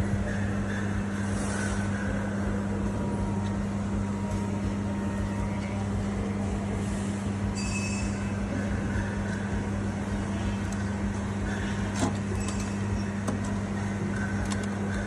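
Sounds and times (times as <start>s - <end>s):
low machinery hum: 0.0s - 15.0s
faint high whine: 1.0s - 13.4s.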